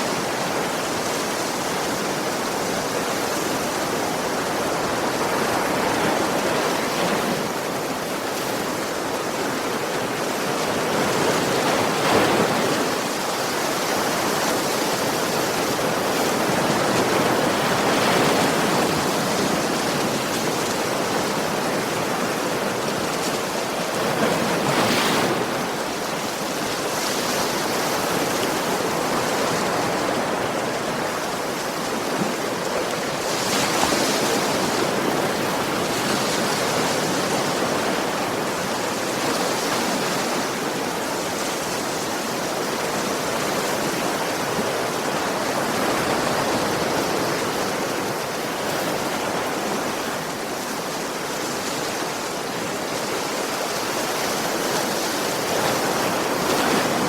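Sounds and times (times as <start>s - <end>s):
waves washing on shore: 0.0s - 57.0s.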